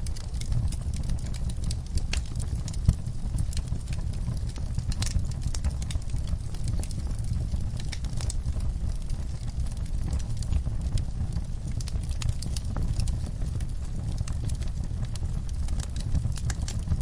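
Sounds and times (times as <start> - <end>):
logs crackling and popping: 0.0 - 17.0
wood fire burning: 0.0 - 17.0.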